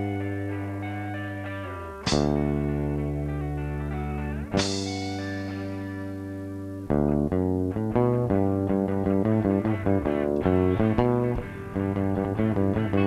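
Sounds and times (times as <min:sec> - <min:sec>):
bass guitar line: 0:00.0 - 0:13.0
electric guitar riff: 0:00.0 - 0:13.0.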